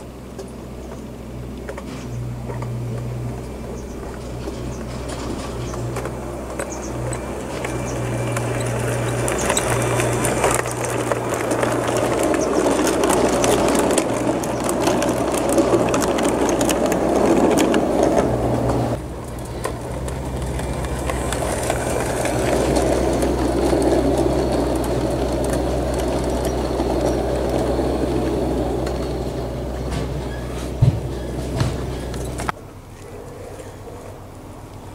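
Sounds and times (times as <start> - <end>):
model train wheels rumbling on rails: 1.4 - 32.6.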